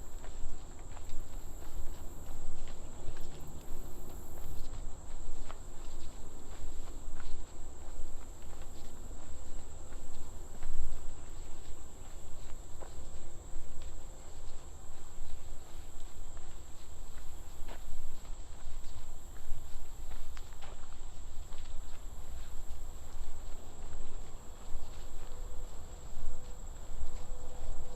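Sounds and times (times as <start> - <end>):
footsteps on trail: 0.0 - 27.9
insects droning: 0.0 - 27.9.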